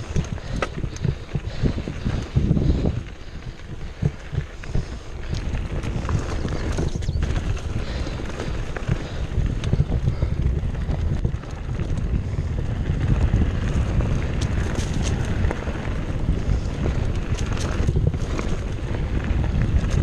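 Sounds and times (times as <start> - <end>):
bike tyres clicking and rattling: 0.0 - 20.0
wind noise on microphone: 0.0 - 20.0.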